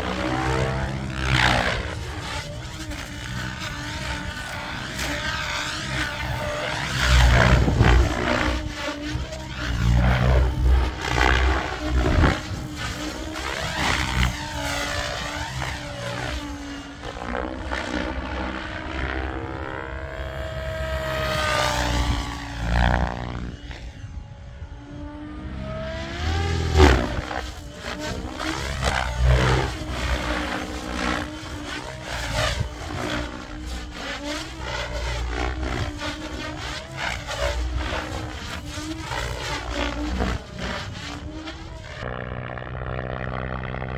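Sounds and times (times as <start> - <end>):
model aircraft motor whine: 0.0 - 43.9.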